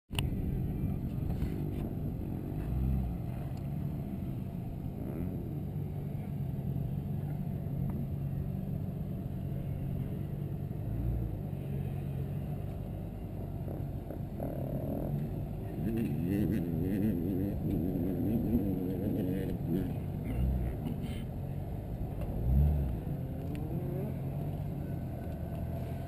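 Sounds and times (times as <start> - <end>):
car engine running at low revs: 0.1 - 26.0.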